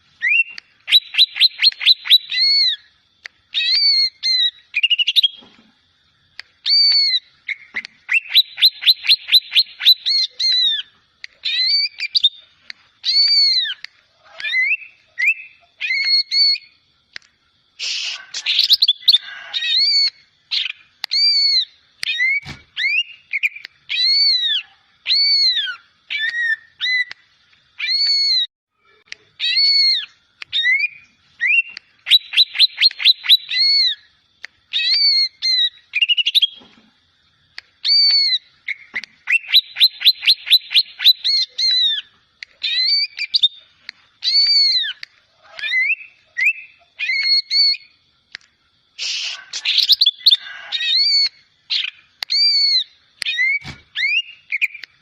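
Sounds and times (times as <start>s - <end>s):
bird singing whistled notes: 0.2s - 2.9s, 3.5s - 5.4s, 6.6s - 16.8s, 17.8s - 27.2s, 29.4s - 34.1s, 34.7s - 36.6s, 37.8s - 45.0s, 45.6s - 48.0s, 49.0s - 54.9s.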